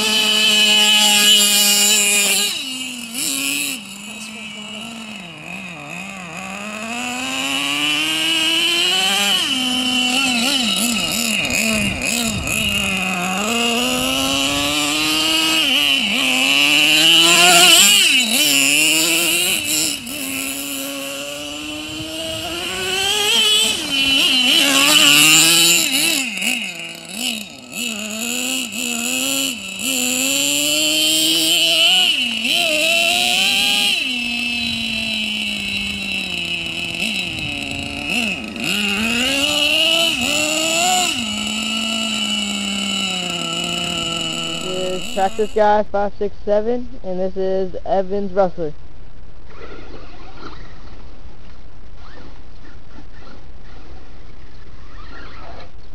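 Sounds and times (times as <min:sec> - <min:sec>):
small glow engine revving: 0:00.0 - 0:45.8.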